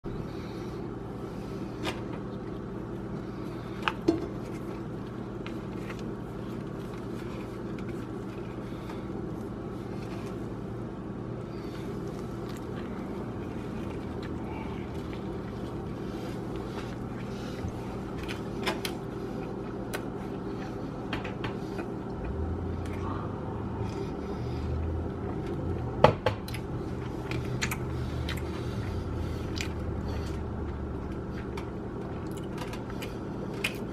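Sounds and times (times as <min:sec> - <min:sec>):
steady background hum: 0:00.0 - 0:33.9.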